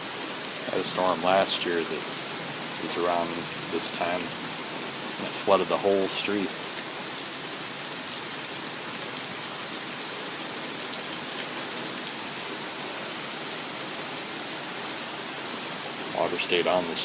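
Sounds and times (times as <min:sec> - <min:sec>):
rain downpour hiss: 0:00.0 - 0:17.0.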